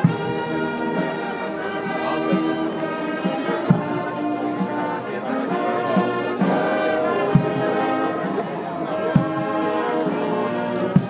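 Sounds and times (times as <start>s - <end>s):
brass band playing: 0.0s - 11.0s
crowd voices: 0.0s - 11.0s.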